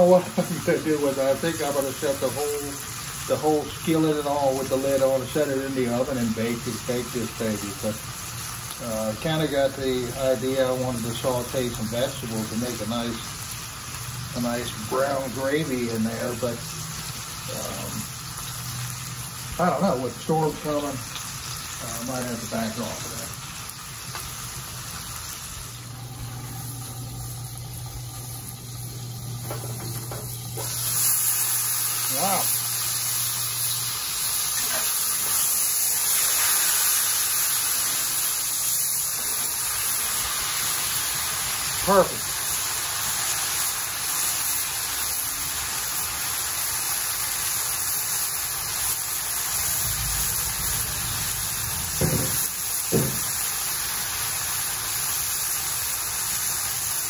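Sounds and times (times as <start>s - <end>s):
chicken sizzling in pan: 0.0s - 57.0s
gas burner humming: 0.0s - 57.0s.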